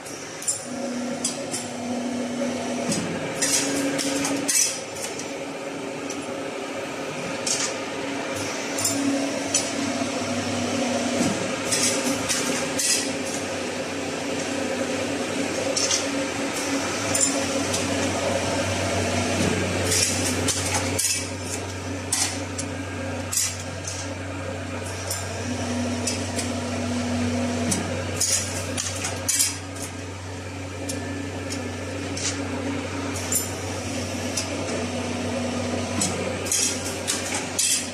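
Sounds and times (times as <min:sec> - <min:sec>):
thread-cutting machine humming: 0:00.0 - 0:37.9.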